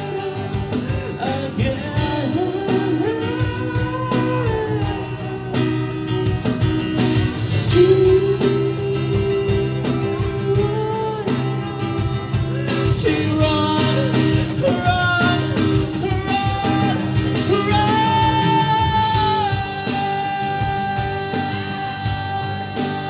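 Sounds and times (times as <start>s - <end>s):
band backing: 0.0s - 23.0s
electronic drum pad percussion: 0.0s - 23.0s
man singing into microphone: 0.0s - 23.0s.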